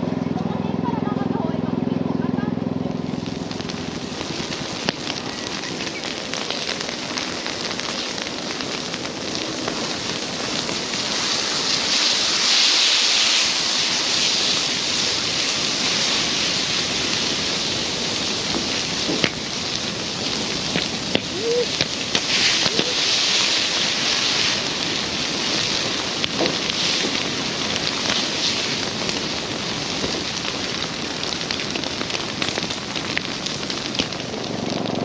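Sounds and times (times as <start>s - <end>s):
bonfire hissing and crackling: 2.8s - 35.0s.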